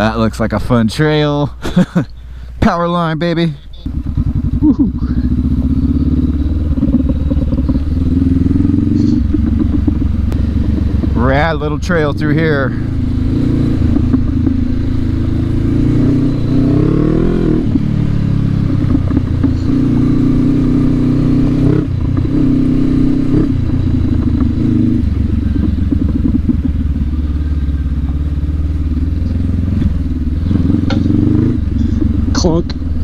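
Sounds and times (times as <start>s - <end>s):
motorcycle engine revving: 3.0s - 33.0s.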